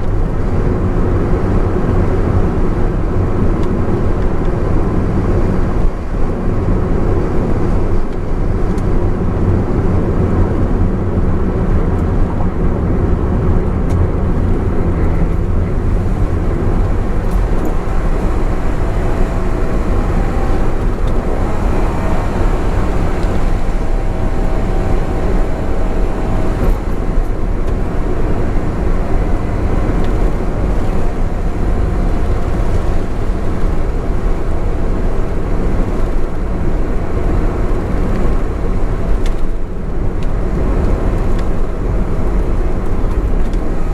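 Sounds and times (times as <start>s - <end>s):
car engine hum: 0.0s - 43.9s.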